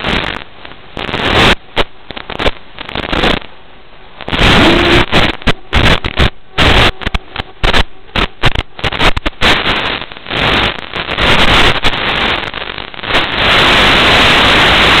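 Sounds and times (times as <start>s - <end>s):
video receiver static hiss: 0.0s - 15.0s.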